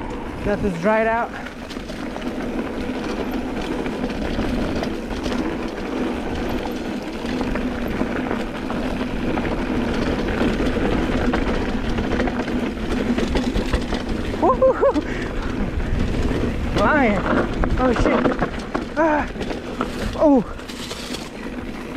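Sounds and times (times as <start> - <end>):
bike rattling: 0.0 - 21.9
bike tyres rumbling on dirt: 0.0 - 21.9.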